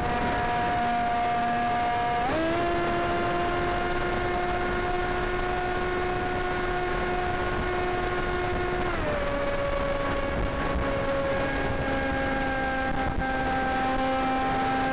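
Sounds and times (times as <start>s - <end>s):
electric motor whine: 0.0s - 14.9s.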